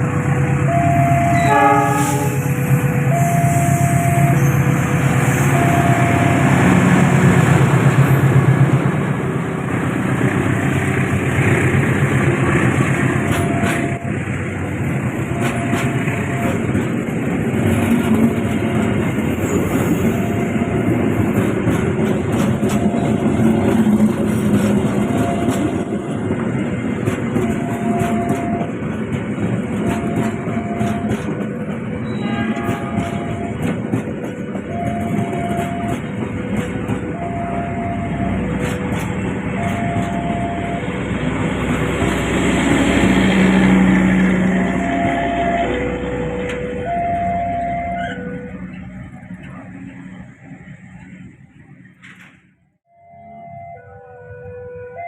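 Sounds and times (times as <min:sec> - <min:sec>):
train wheels rumbling on rails: 0:00.0 - 0:52.8
locomotive running: 0:00.0 - 0:55.0.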